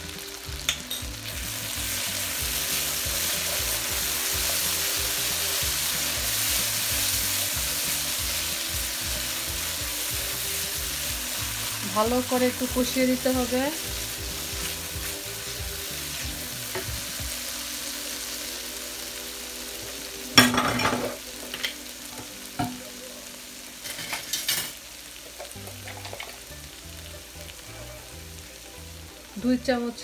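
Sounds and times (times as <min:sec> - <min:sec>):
paste sizzling in oil: 0:00.0 - 0:30.0.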